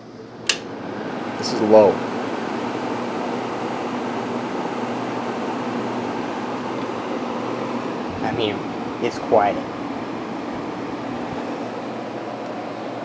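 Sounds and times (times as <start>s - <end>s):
air conditioner fan rushing air: 0.0s - 13.0s
low motor hum: 0.3s - 13.0s.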